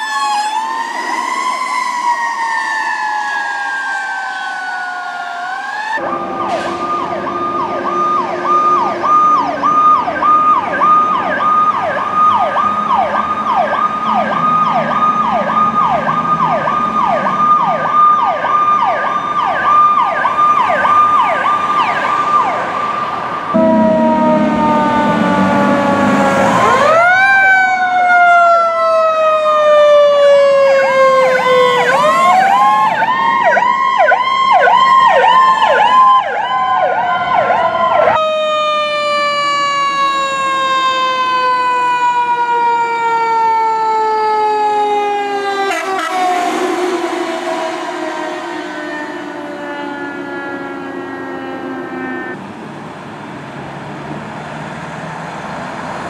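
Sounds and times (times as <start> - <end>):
electronic siren yelping: 0.0 - 52.4
siren wailing: 0.0 - 52.6.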